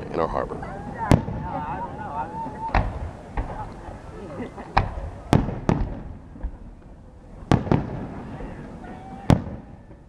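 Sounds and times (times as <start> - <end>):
fireworks booming: 0.0 - 10.0.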